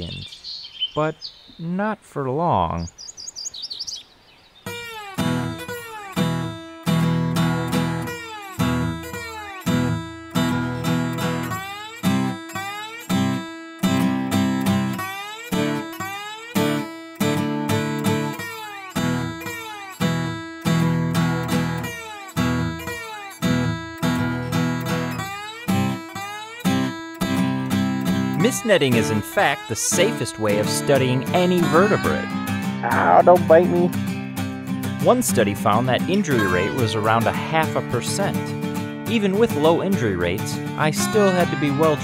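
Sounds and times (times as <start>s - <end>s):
acoustic guitar strumming: 4.7s - 42.0s.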